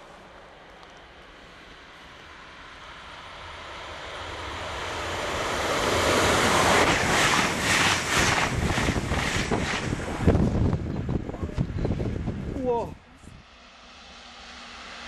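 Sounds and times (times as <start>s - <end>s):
train rushing past: 0.0s - 15.0s.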